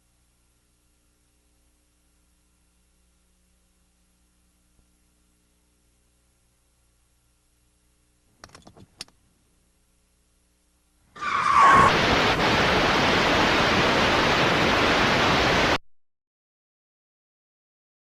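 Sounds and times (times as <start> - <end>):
loud static hiss: 0.0 - 15.8.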